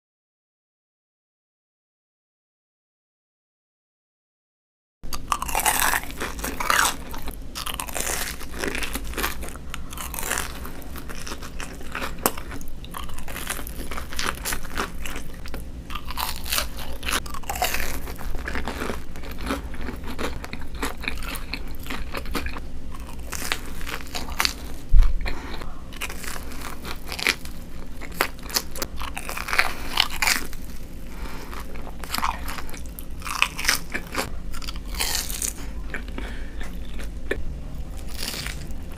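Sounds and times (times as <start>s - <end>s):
crunchy bites into fried food: 5.1s - 25.4s, 26.0s - 37.4s, 38.0s - 38.9s
chewing: 5.1s - 38.9s.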